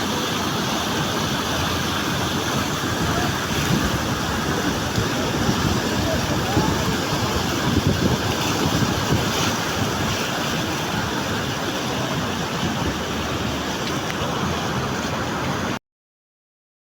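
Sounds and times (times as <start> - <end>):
mountain water rushing: 0.0 - 15.8
wind buffeting microphone: 0.1 - 15.8.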